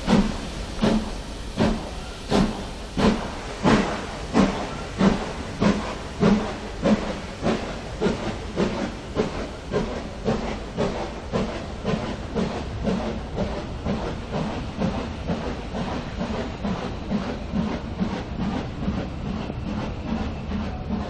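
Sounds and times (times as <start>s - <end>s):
steam locomotive chuffing: 0.0s - 21.0s.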